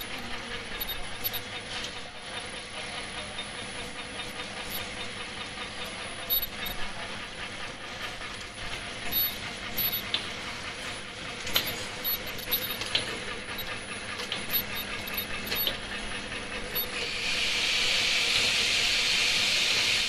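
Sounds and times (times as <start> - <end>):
sharp machine clicks and clacks: 0.0 - 17.6
machine humming and hissing: 0.0 - 20.0.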